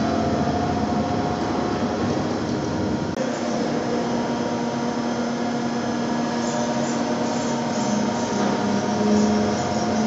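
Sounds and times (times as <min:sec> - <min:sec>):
milling machine hum and whir: 0:00.0 - 0:10.0.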